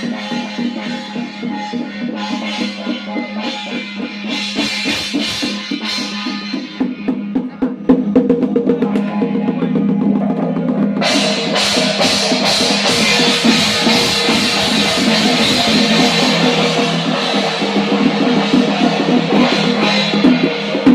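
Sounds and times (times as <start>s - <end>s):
bright clashing cymbals: 0.0s - 7.4s, 8.8s - 20.9s
drums beating steady pulse: 0.0s - 20.9s.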